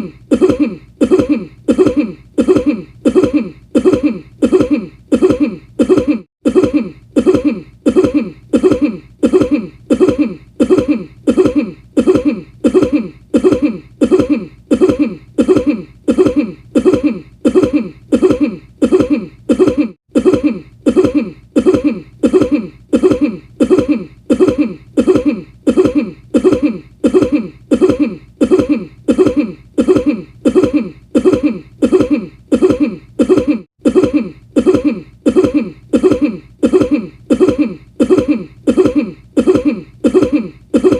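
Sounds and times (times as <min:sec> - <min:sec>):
person coughing: 0:00.0 - 0:40.9.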